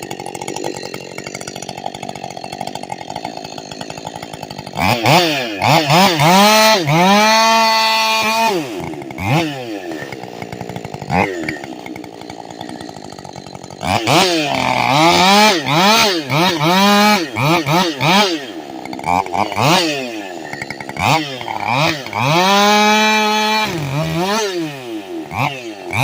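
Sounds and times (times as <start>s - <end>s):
chainsaw revving: 0.0s - 26.0s.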